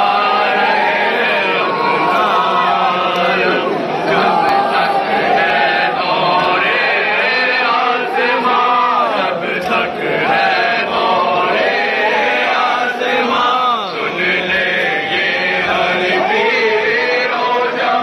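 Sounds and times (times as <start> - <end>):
men chanting together: 0.0 - 18.0.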